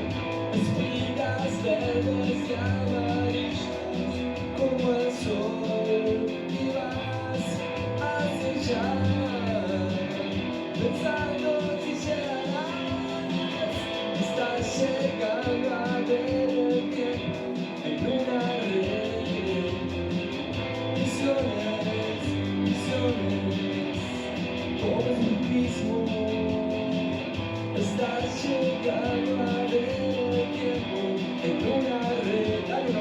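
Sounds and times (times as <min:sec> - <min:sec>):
indie rock band playing: 0:00.0 - 0:33.0.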